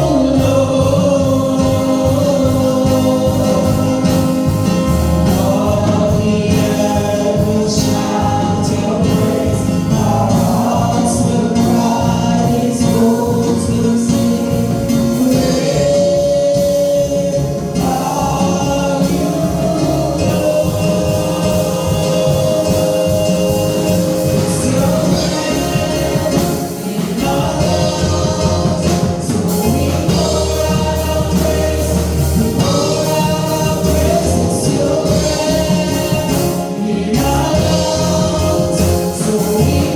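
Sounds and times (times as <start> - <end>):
band playing: 0.0 - 39.9
choir singing gospel: 0.0 - 39.9.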